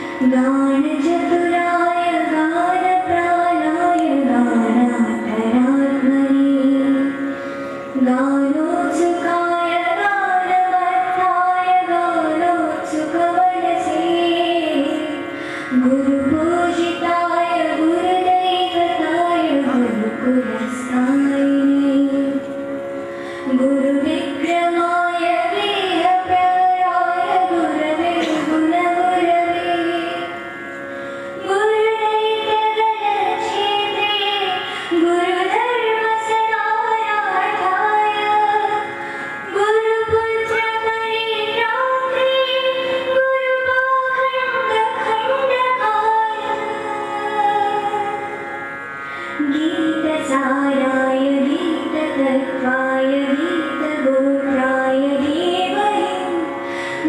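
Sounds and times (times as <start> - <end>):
woman singing into a microphone: 0.0 - 30.4, 31.4 - 48.6, 49.2 - 57.0.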